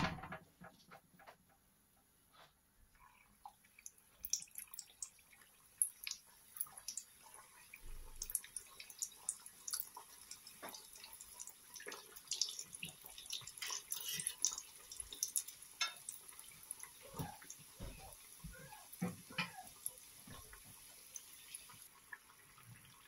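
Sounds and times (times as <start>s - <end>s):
oil sizzling and popping: 3.0s - 23.0s.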